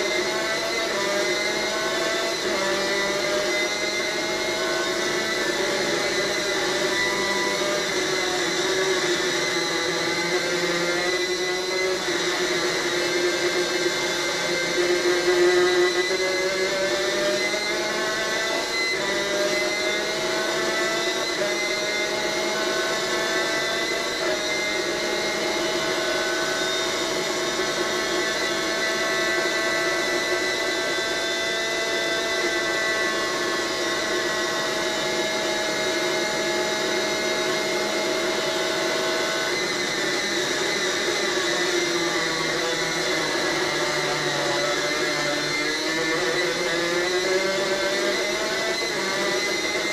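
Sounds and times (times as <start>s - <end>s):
racing kart engine revving: 0.0s - 49.9s.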